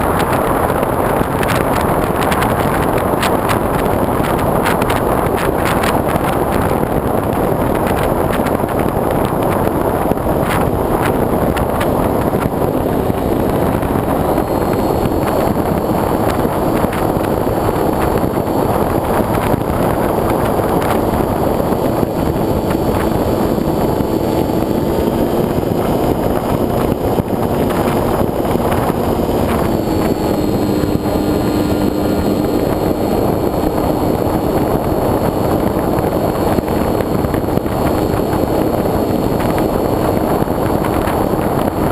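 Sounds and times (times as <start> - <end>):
model plane motor and propeller: 0.0 - 41.9
rush of airflow: 0.0 - 41.9.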